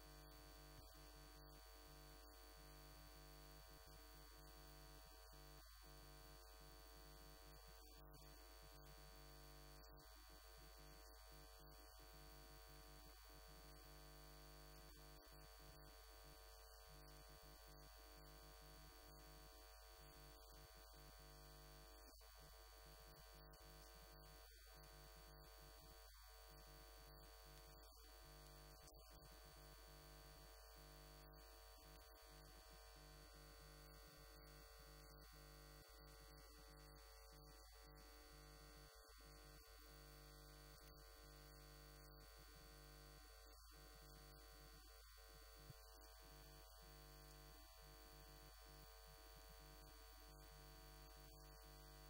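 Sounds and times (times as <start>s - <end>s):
faint electrical hum and hiss: 0.0s - 52.0s.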